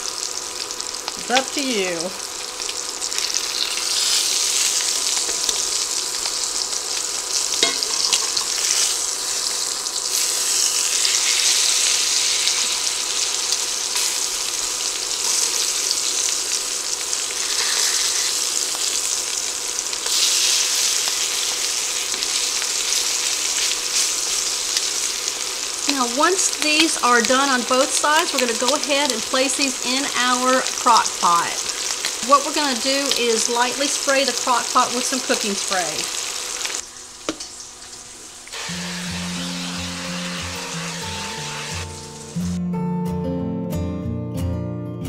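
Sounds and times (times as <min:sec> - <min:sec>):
meat sizzling in skillet: 0:00.0 - 0:42.6.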